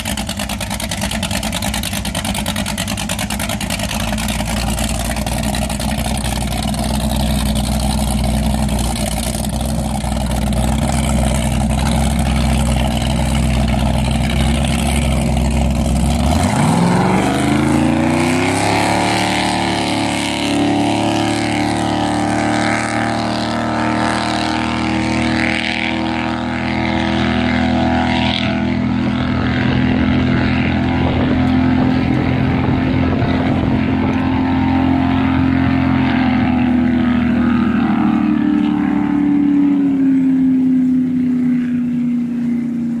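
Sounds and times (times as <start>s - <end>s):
powerboat engine running: 0.0s - 43.0s.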